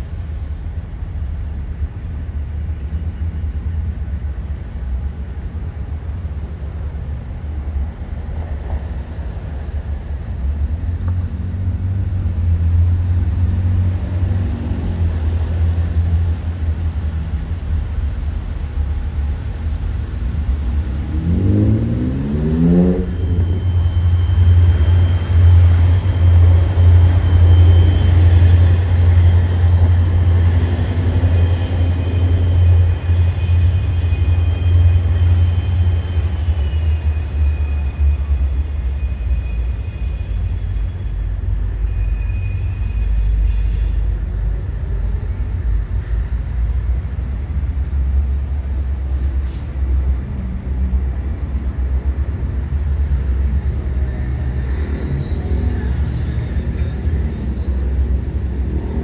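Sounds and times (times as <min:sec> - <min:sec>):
faint high whine: 0:00.0 - 0:59.0
freight train rumble: 0:00.0 - 0:59.0.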